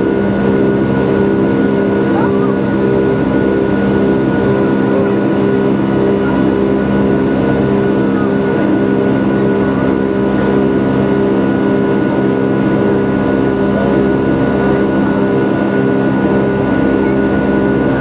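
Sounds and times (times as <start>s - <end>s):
jet engines droning in cabin: 0.0s - 18.0s.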